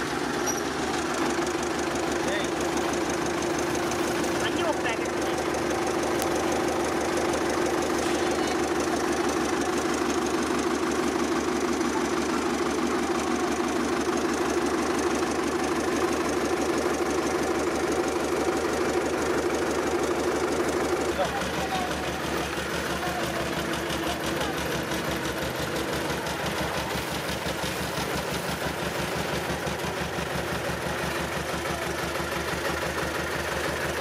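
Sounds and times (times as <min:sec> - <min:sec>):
road roller engine running: 0:00.0 - 0:34.0.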